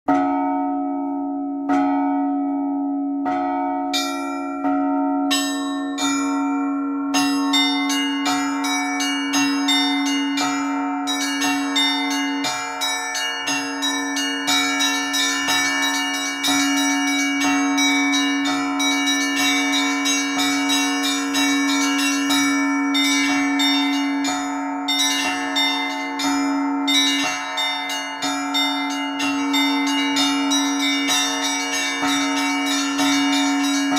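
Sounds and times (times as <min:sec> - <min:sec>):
low church bell: 0:00.1 - 0:33.9
small high bells ringing: 0:00.1 - 0:33.9.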